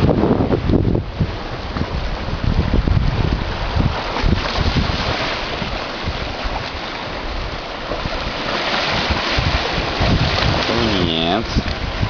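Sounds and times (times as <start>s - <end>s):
sea waves rushing: 0.0s - 12.0s
wind buffeting microphone: 0.0s - 12.0s.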